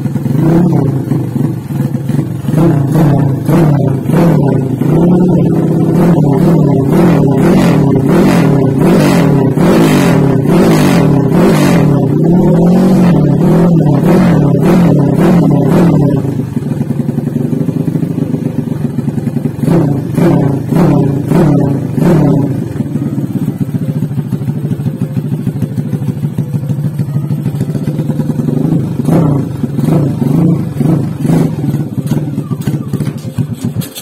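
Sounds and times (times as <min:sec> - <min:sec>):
motorcycle engine running and revving: 0:00.0 - 0:34.0.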